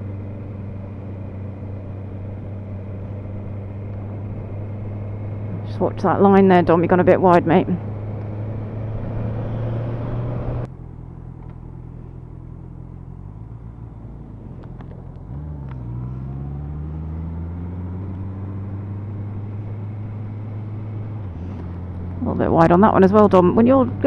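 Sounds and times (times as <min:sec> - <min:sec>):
motorcycle engine: 0:00.0 - 0:24.0.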